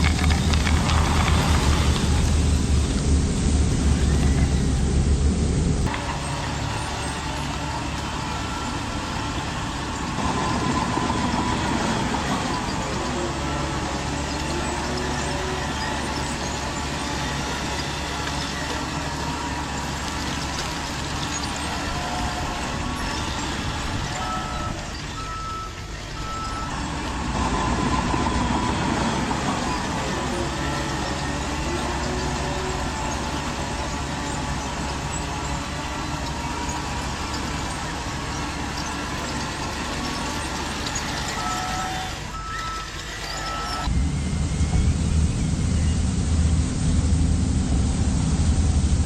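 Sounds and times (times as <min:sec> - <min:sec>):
electric motors whining: 0:00.0 - 0:46.6
low engine-like hum: 0:00.0 - 0:49.0.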